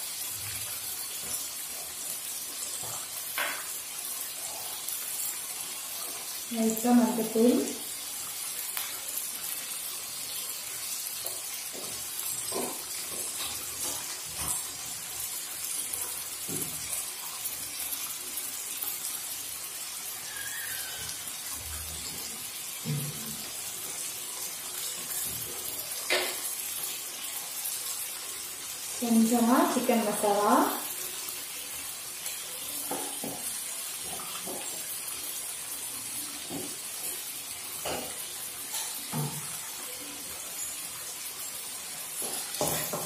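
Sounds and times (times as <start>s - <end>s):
chicken sizzling in oil: 0.0s - 43.0s.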